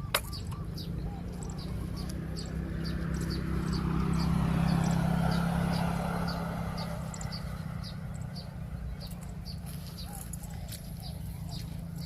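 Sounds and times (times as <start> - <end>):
vehicle engine passing: 0.0 - 12.0.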